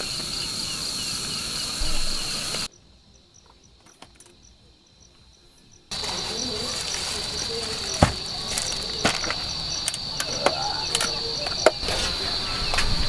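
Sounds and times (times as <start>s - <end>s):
faint insect chirps: 0.0s - 13.0s
insect trill: 0.0s - 13.0s.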